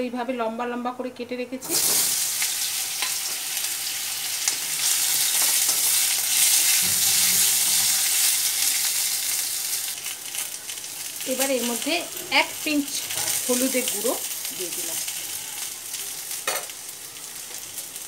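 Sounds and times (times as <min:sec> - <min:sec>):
oil sizzling and spitting: 0:01.6 - 0:18.0.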